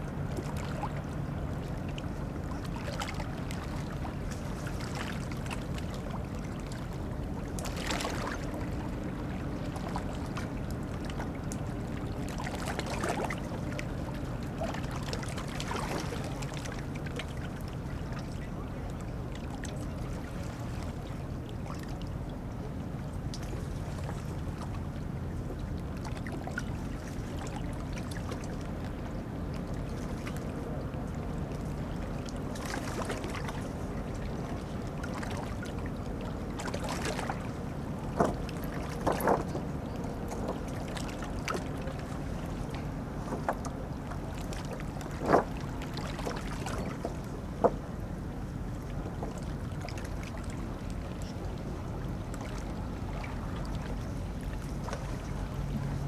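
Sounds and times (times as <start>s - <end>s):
boat engines rumbling: 0.0s - 56.0s.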